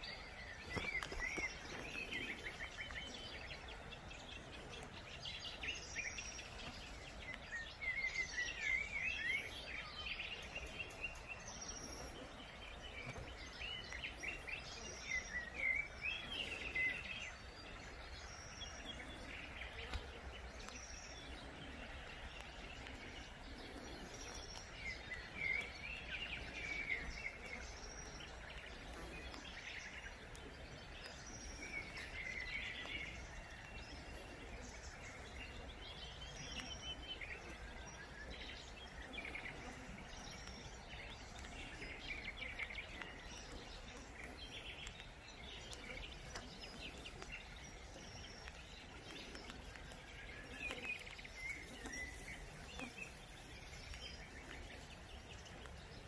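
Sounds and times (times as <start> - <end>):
faint outdoor background hiss: 0.0 - 56.0
songbirds twittering: 0.0 - 56.0.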